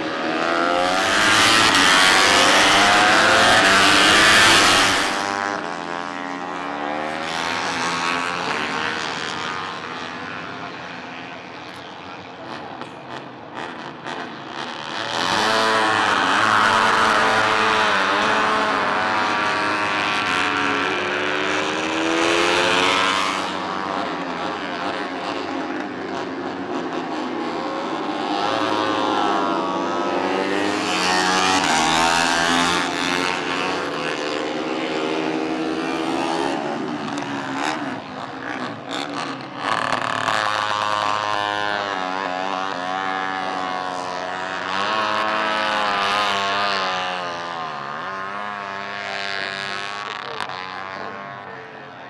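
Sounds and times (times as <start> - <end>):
racing motorcycle engines revving: 0.0 - 52.0.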